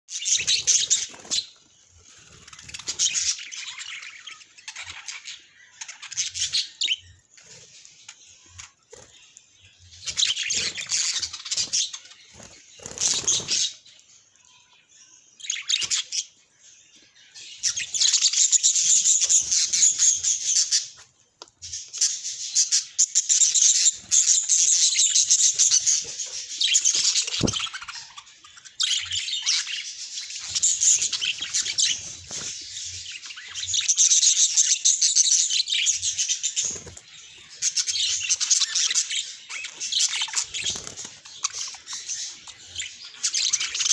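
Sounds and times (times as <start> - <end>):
budgerigars chattering and warbling: 0.1 - 16.4, 17.2 - 21.0, 21.6 - 43.9.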